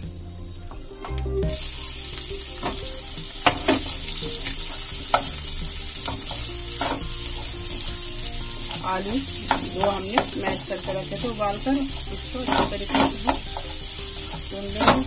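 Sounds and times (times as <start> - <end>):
hot oil sizzling in a pan: 0.0 - 15.0
spatula stirring and scraping: 0.5 - 15.0.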